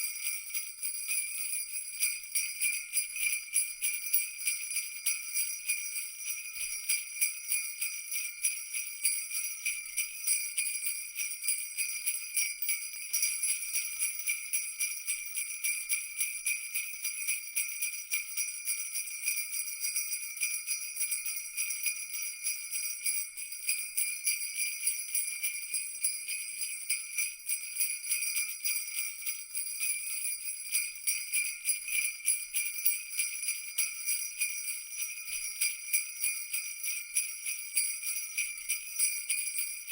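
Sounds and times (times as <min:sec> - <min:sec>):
jingle bells shaken: 0:00.0 - 0:39.9.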